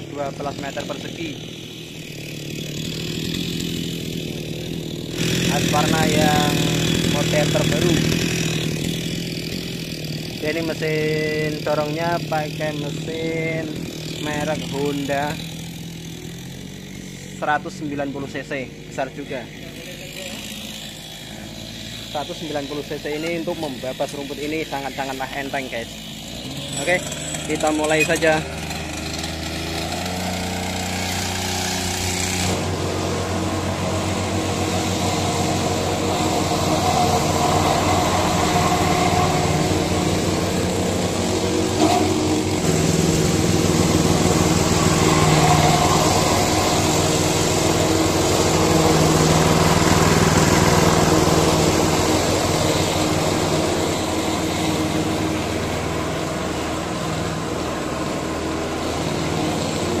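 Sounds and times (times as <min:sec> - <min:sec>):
brush cutter running: 0:00.0 - 1:00.0
lawn mower engine running: 0:00.0 - 1:00.0.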